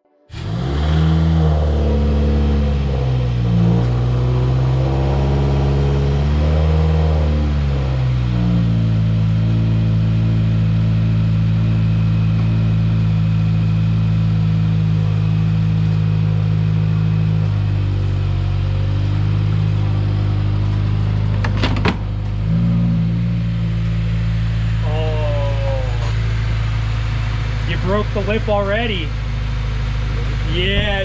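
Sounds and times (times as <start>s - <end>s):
car engine at low revs: 0.4s - 31.0s.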